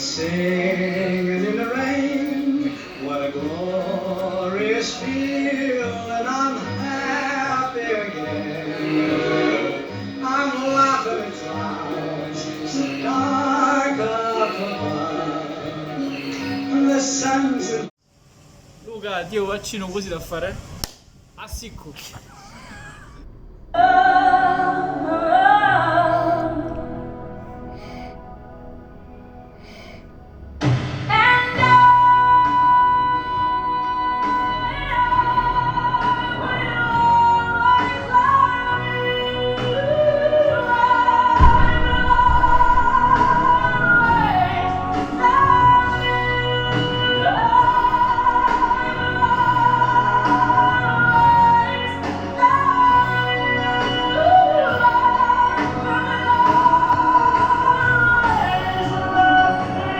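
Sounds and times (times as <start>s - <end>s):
operatic singing: 0.0s - 17.9s, 22.5s - 59.9s.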